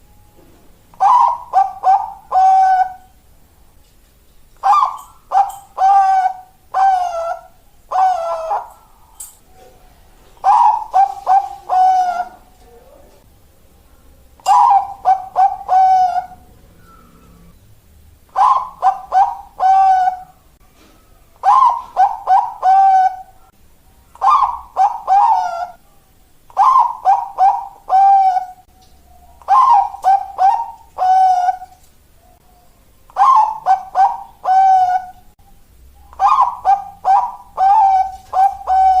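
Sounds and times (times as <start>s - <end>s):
dove cooing: 0.9s - 3.2s, 4.6s - 13.2s, 14.4s - 17.6s, 18.3s - 23.5s, 24.1s - 35.4s, 36.0s - 39.0s.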